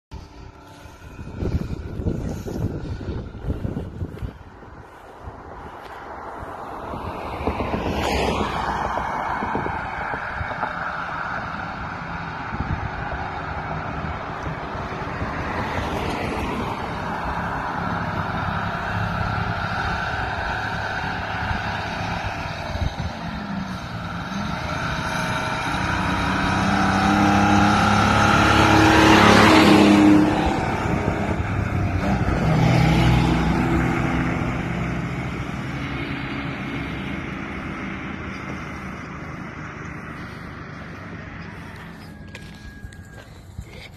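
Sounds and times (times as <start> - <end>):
diesel truck driving by: 0.1 - 43.9.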